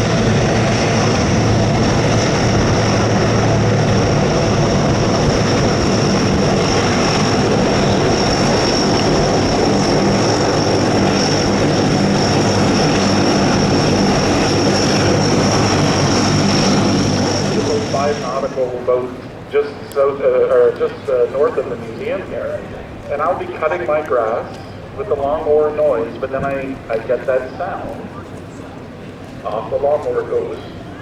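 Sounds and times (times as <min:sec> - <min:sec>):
high engine whine: 0:00.0 - 0:30.9
aircraft engine drone: 0:00.0 - 0:31.0.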